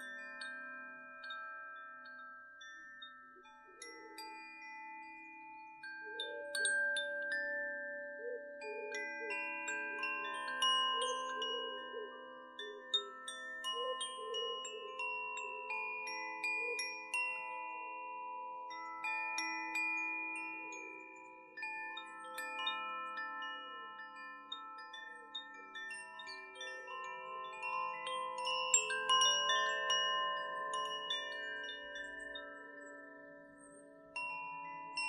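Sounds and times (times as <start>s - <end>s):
wind chimes ringing: 0.0s - 35.0s.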